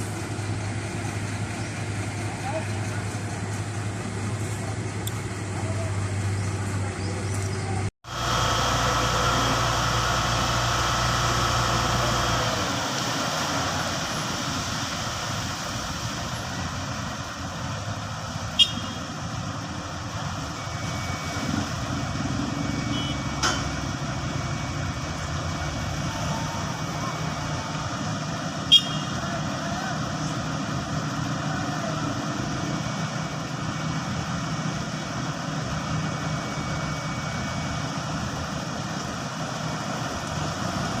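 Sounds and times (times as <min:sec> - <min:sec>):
engine running: 0:00.0 - 0:41.0.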